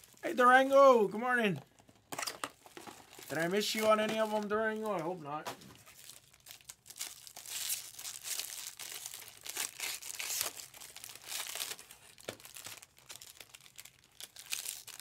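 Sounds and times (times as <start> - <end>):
plastic sleeve crinkling: 0.0 - 15.0.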